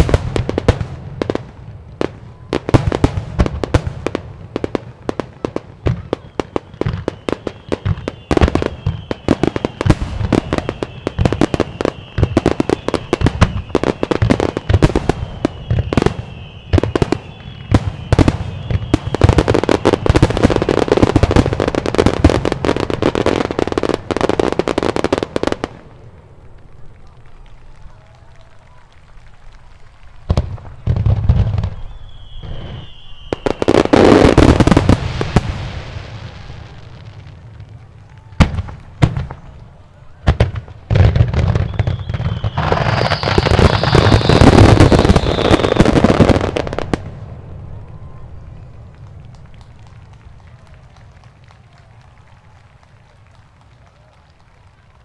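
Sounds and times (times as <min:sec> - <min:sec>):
firework crackle: 0:00.0 - 0:55.0
fireworks bursting: 0:00.0 - 0:55.0
faint firework whistles: 0:02.0 - 0:25.9, 0:26.6 - 0:37.4, 0:38.0 - 0:55.0.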